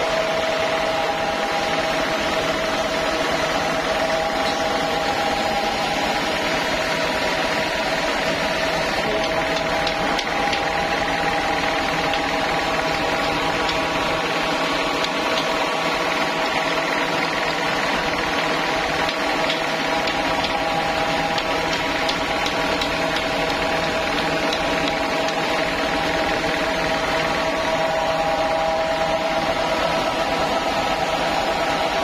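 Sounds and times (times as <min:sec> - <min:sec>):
sawmill motor hum and whine: 0:00.0 - 0:32.0.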